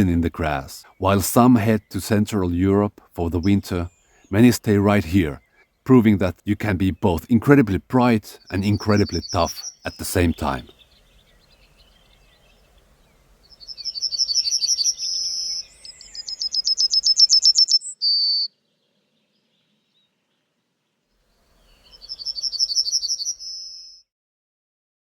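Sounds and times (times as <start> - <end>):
bird singing: 0.0 - 24.1.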